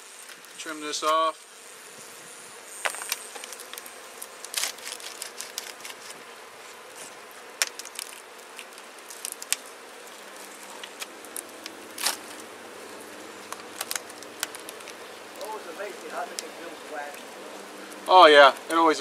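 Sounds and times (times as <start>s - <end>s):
bees buzzing: 0.0s - 19.0s
knife scraping through honeycomb: 0.1s - 18.1s.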